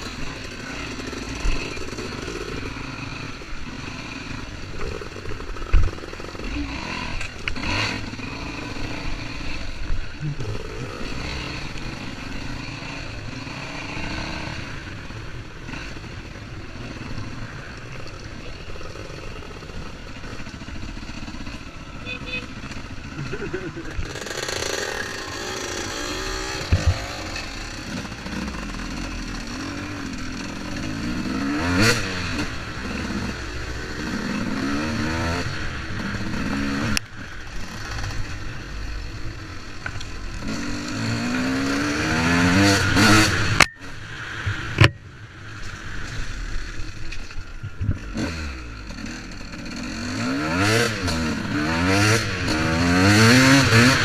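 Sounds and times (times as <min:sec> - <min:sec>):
motocross bike engine revving: 0:00.0 - 0:44.9, 0:47.8 - 0:54.0.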